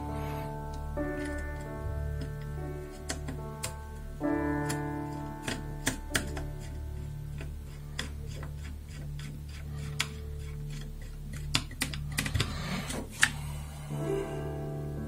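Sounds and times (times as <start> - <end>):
low steady drone: 0.0 - 15.0
soft background music: 0.0 - 15.0.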